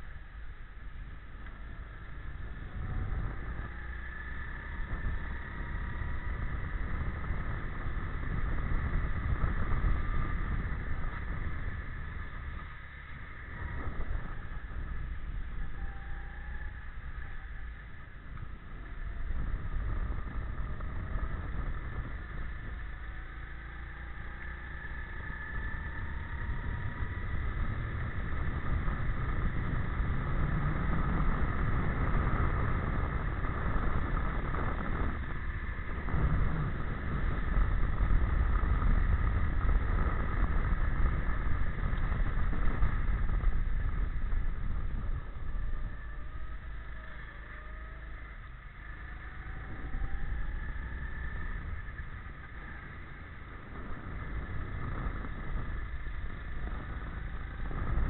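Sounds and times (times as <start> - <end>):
go-kart engine running hard: 0.0 - 58.0
wind rumbling on microphone: 0.0 - 58.0.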